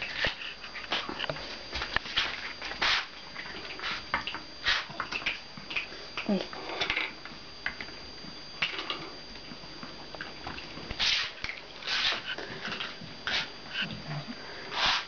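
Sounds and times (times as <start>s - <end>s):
puppies sniffing and snuffling: 0.0s - 15.0s.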